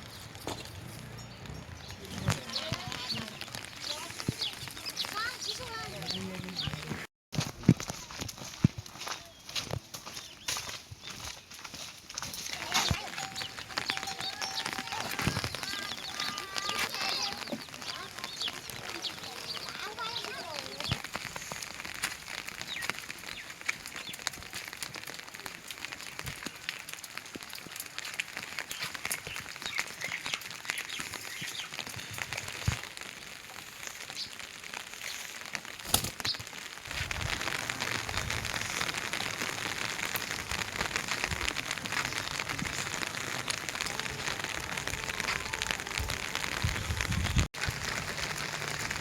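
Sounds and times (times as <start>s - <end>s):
heavy rain falling: 0.0s - 7.1s, 11.7s - 49.0s
raindrops ticking close by: 0.0s - 7.1s, 7.7s - 49.0s.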